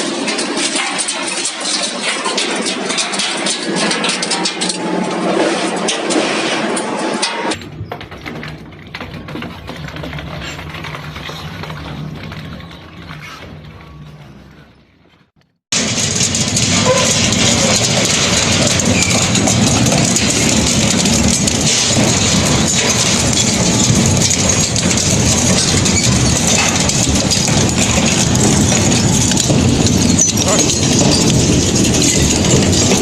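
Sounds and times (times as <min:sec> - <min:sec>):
hammer crusher clattering and grinding: 0:00.0 - 0:33.0.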